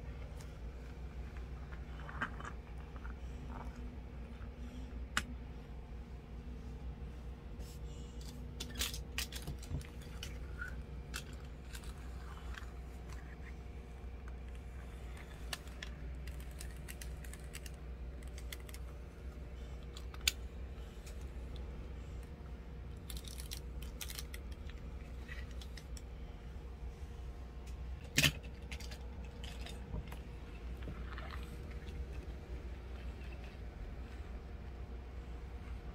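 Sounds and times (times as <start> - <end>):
low background hum: 0.0 - 35.9.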